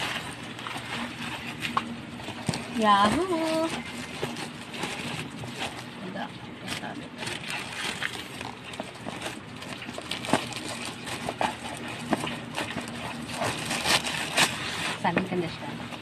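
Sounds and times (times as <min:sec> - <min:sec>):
plastic bag rustling and crinkling: 0:00.0 - 0:16.0.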